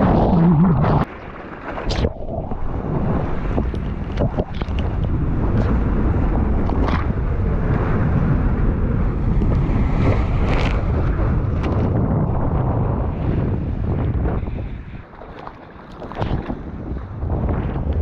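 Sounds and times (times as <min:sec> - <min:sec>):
surf rushing and rumbling: 0:00.0 - 0:18.0
wind buffeting microphone: 0:00.0 - 0:18.0.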